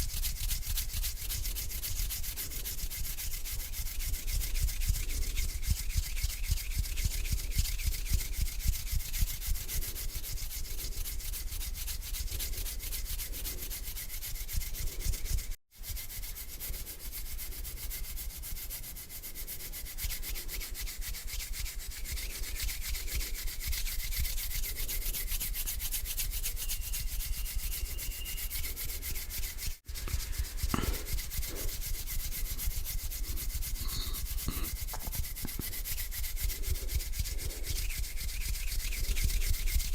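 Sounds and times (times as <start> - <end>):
hands rubbing together: 0.0 - 39.9.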